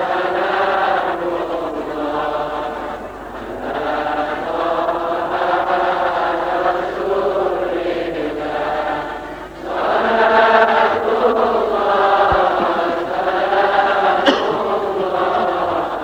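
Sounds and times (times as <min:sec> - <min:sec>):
congregation chanting in unison: 0:00.0 - 0:16.0.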